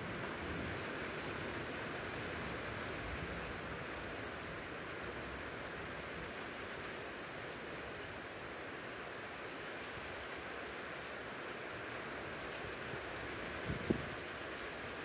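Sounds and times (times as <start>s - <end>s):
storm hiss: 0.0s - 15.0s.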